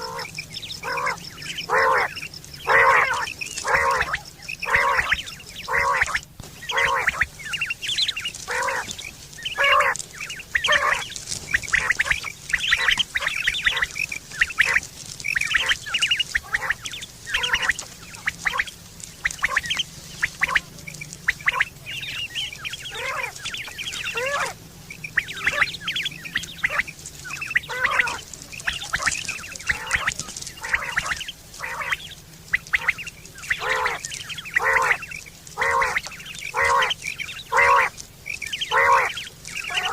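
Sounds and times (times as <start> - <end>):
quails calling: 0.0 - 39.9.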